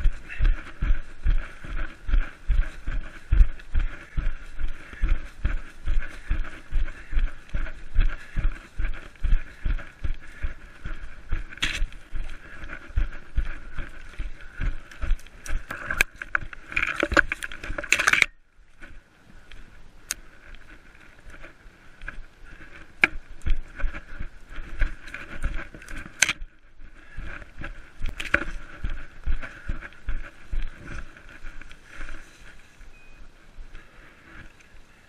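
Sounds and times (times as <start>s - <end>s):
leaves and twigs crackling: 0.0s - 35.0s
runner's footsteps in undergrowth: 0.0s - 35.0s.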